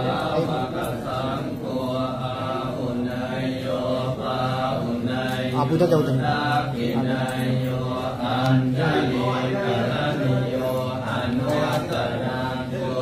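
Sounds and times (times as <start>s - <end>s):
monks chanting in unison: 0.0s - 13.0s.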